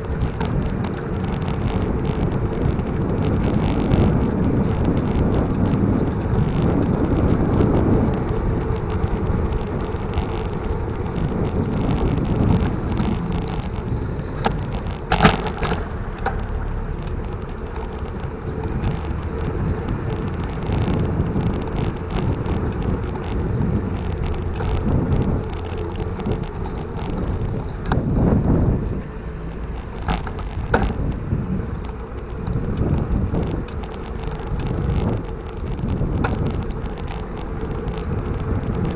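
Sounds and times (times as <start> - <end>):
bicycle tyre road noise: 0.0 - 38.9
rattling clicks: 0.0 - 38.9
wind buffeting microphone: 0.0 - 38.9.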